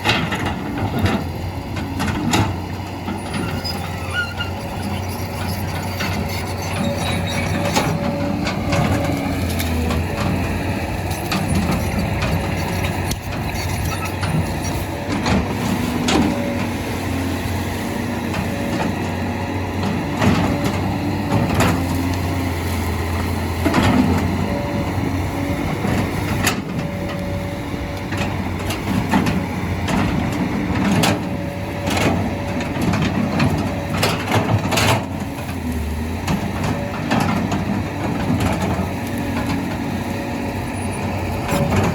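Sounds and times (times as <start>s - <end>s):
diesel machinery engine running: 0.0s - 41.9s.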